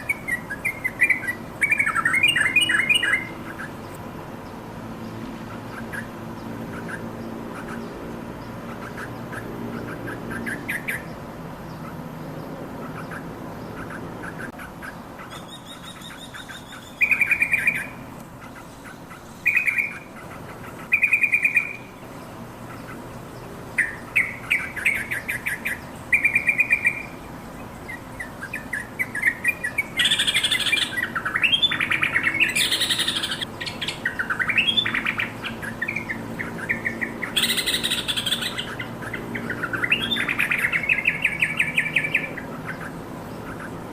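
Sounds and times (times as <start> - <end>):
bird chattering and singing: 0.0 - 43.9.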